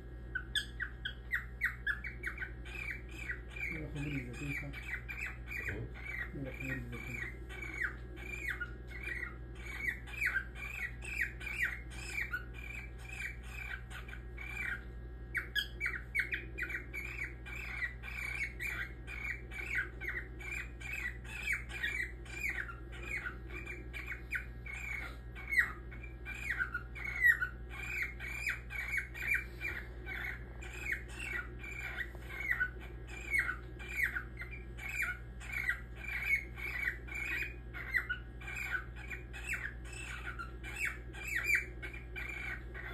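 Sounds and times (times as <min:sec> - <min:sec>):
cockatiel calling: 0:00.3 - 0:42.9.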